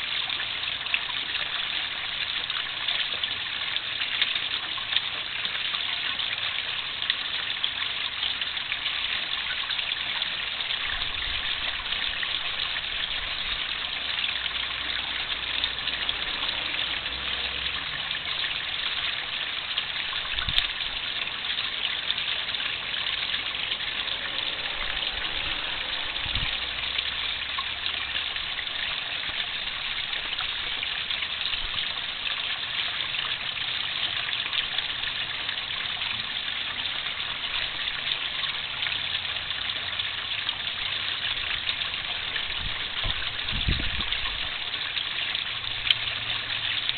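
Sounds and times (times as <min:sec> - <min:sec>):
water splashing into pond: 0:00.0 - 0:46.9.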